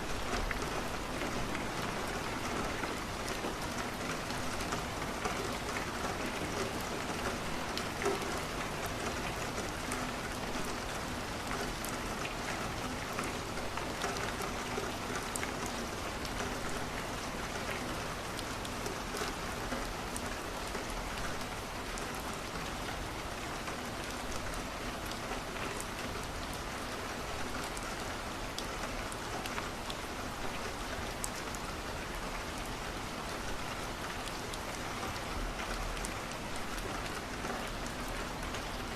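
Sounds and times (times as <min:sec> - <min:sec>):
rain against a window: 0:00.0 - 0:38.9.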